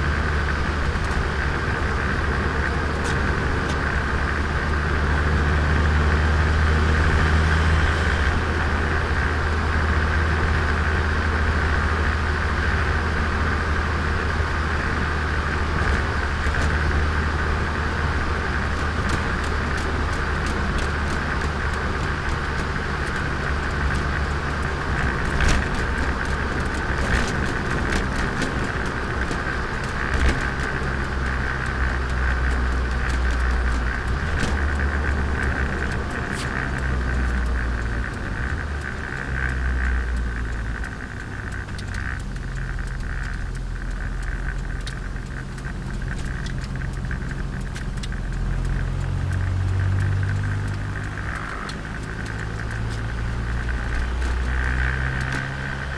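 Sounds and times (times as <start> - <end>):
car engine drone: 0.0 - 55.9
road noise: 0.0 - 55.9.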